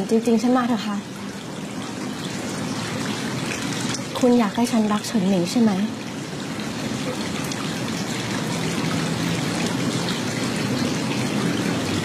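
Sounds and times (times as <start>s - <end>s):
steady noise like falling rain: 0.0s - 12.0s.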